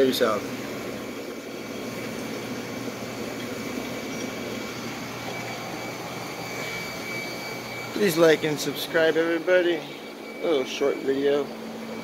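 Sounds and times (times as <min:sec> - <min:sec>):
aquarium water rushing: 0:00.0 - 0:12.0
faint high whine: 0:00.0 - 0:12.0.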